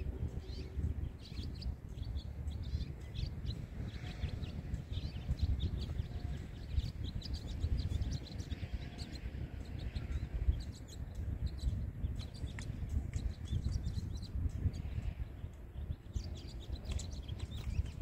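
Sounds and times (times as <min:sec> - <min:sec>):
wind rumble on microphone: 0:00.0 - 0:18.0
bird chirps: 0:00.2 - 0:18.0.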